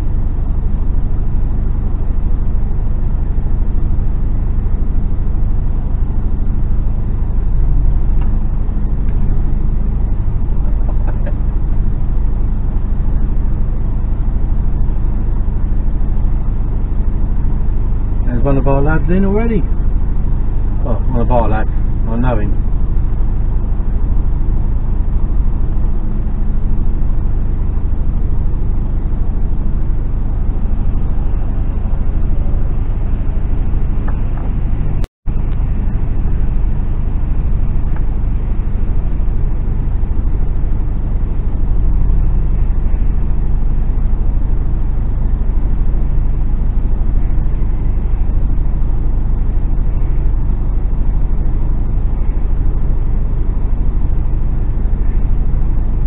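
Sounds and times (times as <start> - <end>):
lorry diesel engine droning: 0.0 - 56.0
road noise: 7.2 - 56.0.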